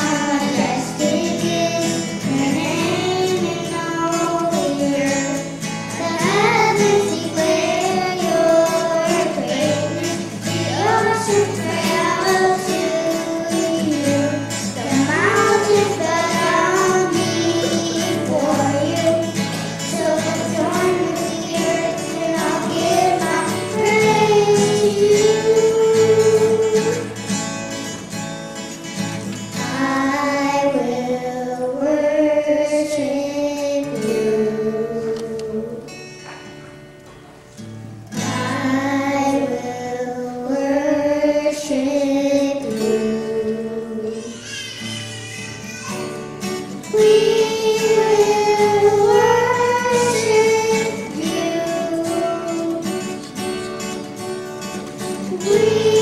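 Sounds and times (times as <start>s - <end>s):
children singing: 0.0s - 27.3s, 29.5s - 35.8s, 38.2s - 56.0s
acoustic guitar strumming: 0.0s - 56.0s.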